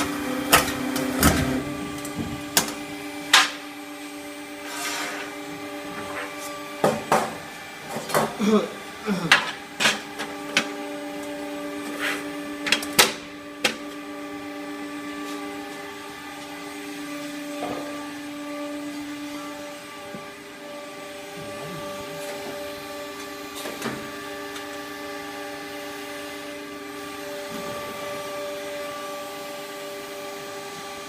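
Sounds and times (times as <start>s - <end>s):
machine humming: 0.0s - 31.0s.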